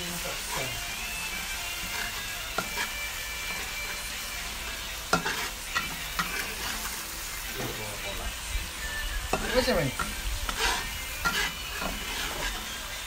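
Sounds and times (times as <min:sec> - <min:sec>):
metal spatula scraping a wok: 0:00.0 - 0:13.0
spice paste sizzling in hot oil: 0:00.0 - 0:13.0.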